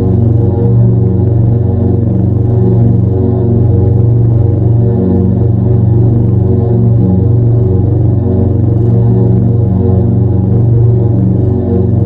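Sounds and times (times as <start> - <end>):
droning ambient electronic music: 0.0 - 12.0.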